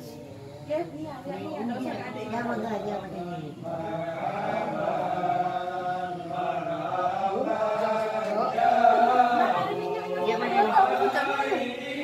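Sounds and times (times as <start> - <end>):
voices chanting together: 0.0 - 12.0.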